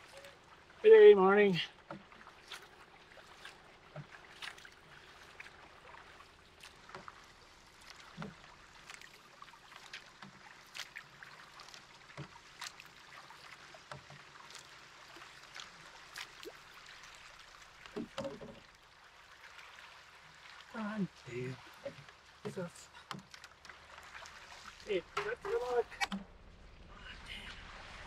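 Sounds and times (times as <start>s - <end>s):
paddle splashes and knocks: 0.0s - 28.0s
water lapping along hull: 0.0s - 28.0s.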